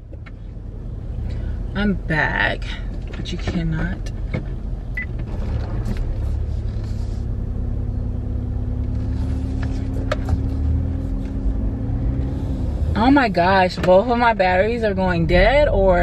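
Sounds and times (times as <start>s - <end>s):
car engine running: 0.0s - 16.0s
low road rumble: 0.0s - 16.0s.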